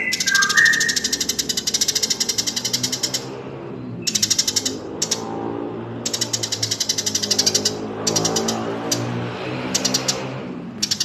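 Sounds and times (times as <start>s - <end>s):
ticking songbird chatter: 0.0s - 5.4s, 6.0s - 11.0s.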